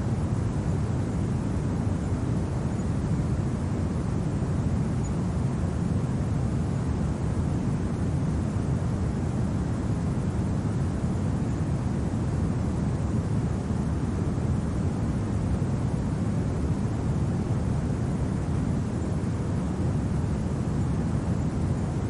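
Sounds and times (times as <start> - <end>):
low rumbling wind: 0.0 - 22.0.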